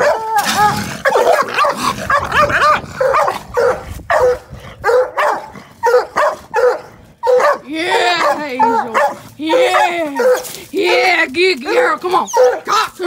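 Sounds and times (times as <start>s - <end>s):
dog barking rapidly: 0.0s - 13.0s.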